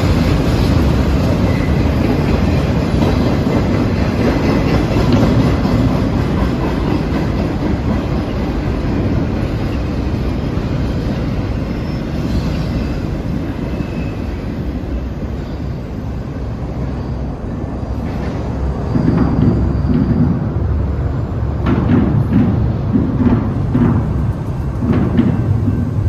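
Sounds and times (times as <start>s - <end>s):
freight train rolling on rails: 0.0s - 26.0s.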